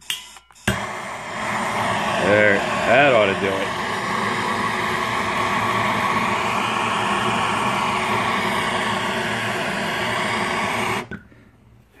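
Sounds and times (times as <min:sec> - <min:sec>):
propane torch hissing: 0:00.6 - 0:11.2.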